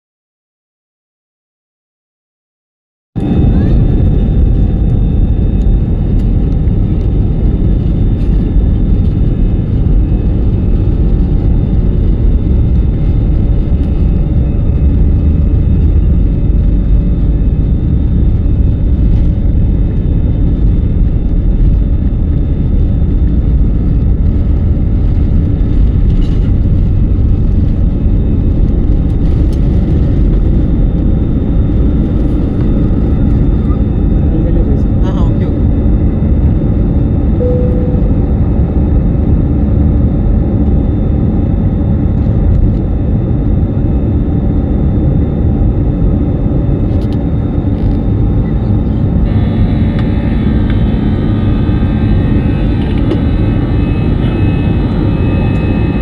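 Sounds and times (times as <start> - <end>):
faint steady whine: 3.2 - 56.0
jet engines rumbling in cabin: 3.2 - 56.0.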